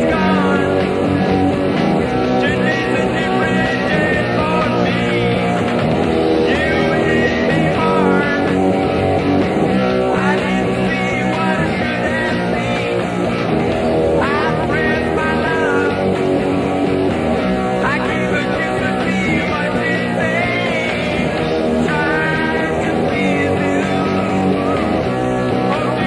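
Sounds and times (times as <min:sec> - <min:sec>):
electric guitar lead sliding up: 0:00.0 - 0:26.0
rock song: 0:00.0 - 0:26.0.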